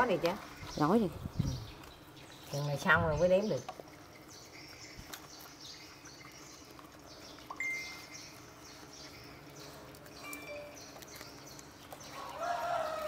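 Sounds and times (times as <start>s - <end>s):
faint bird chirps: 0.5s - 12.3s.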